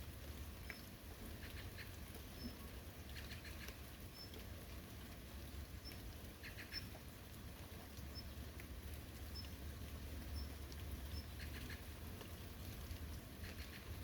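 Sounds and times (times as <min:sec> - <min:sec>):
rain pattering in forest: 0:00.0 - 0:14.0.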